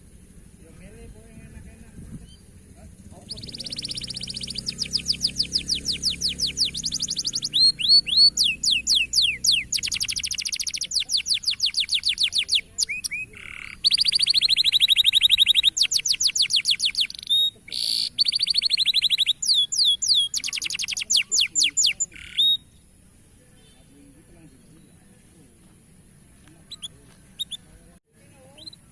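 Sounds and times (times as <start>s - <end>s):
canary singing trills: 0.0s - 25.3s, 26.1s - 28.9s.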